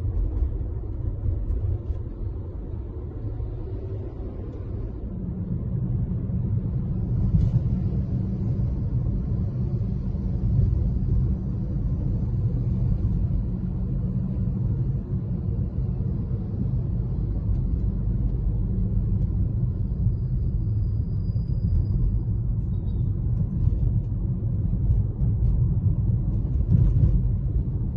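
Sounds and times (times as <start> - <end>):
moving vehicle rumble: 0.0 - 27.9
traffic engines and tyres: 0.0 - 27.9.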